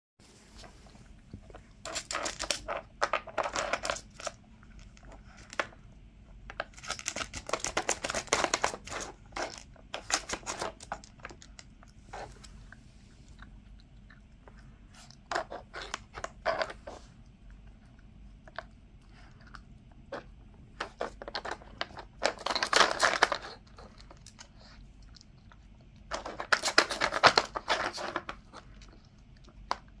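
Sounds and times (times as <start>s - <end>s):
puppy crunching food: 1.2s - 30.0s.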